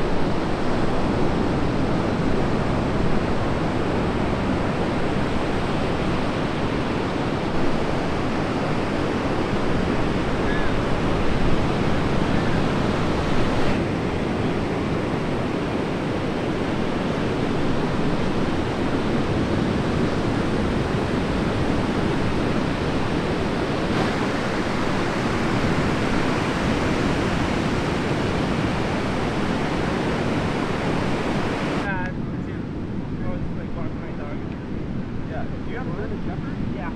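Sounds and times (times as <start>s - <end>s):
surf waves breaking: 0.0s - 36.9s.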